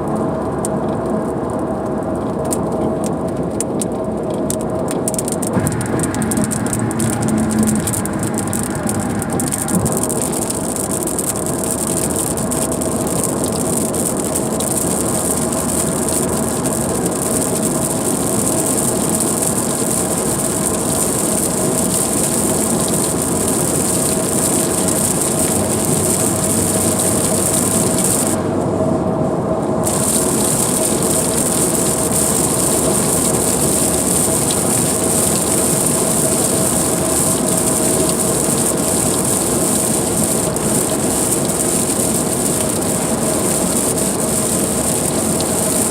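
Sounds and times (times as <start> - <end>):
rain and spray on car: 0.0 - 45.9
tyres hissing on wet road: 4.1 - 45.9.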